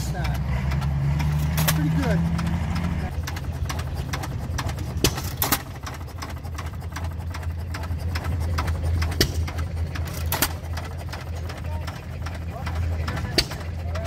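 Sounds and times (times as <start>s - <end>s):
engine humming and clicking: 0.0s - 14.0s.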